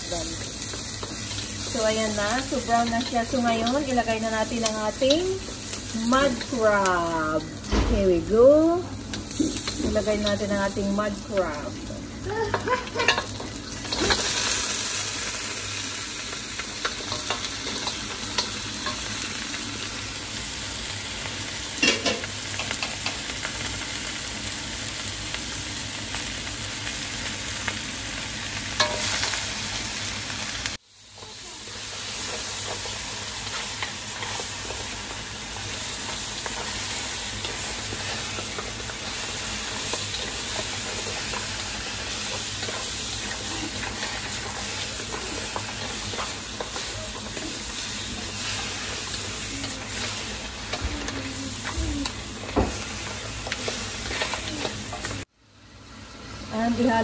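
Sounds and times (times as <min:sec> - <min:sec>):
crabs sizzling in oil: 0:00.0 - 0:57.0.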